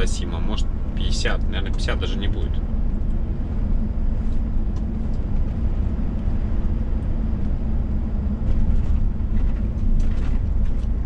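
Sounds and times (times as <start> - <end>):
faint constant hum: 0.0 - 11.0
truck engine and tyres droning: 0.0 - 11.0.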